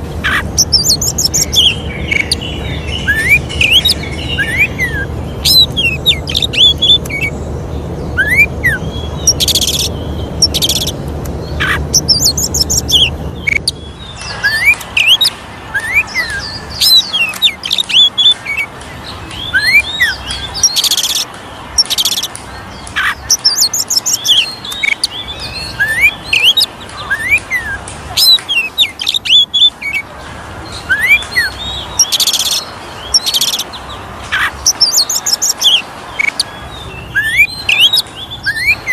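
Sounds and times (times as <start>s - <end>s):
bird singing whistles and chirps: 0.2s - 30.0s, 30.7s - 38.9s.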